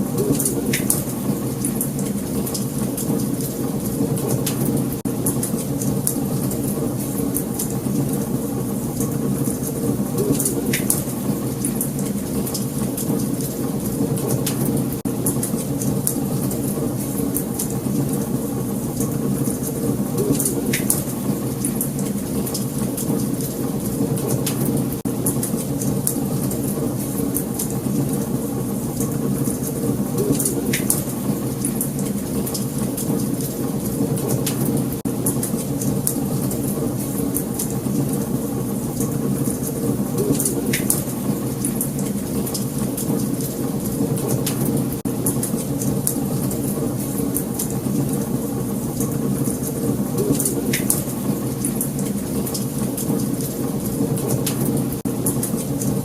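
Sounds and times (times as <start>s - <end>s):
wood fire crackling and popping: 0.1s - 48.2s.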